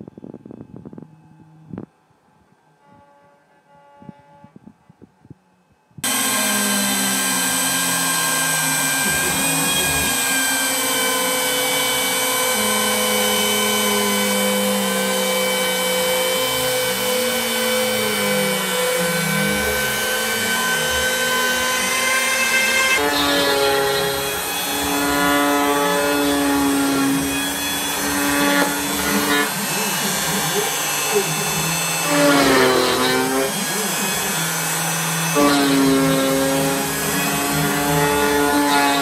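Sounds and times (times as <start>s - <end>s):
router spindle whine: 6.0s - 39.0s.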